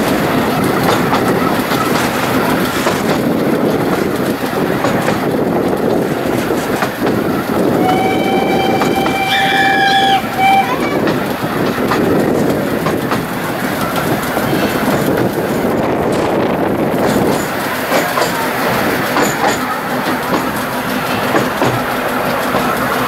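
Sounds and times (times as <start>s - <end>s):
train rumble: 0.0s - 23.0s
wheels clicking over rail joints: 0.0s - 23.0s.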